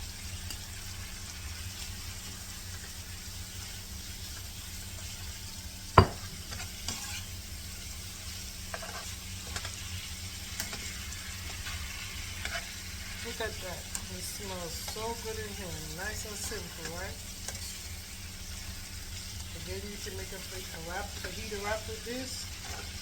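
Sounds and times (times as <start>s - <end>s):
food sizzling in a skillet: 0.0s - 23.0s.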